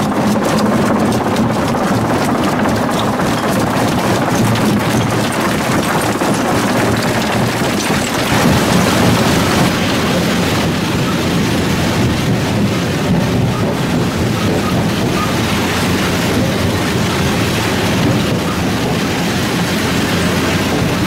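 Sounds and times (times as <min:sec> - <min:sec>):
rock crusher grinding rock: 0:00.0 - 0:21.0.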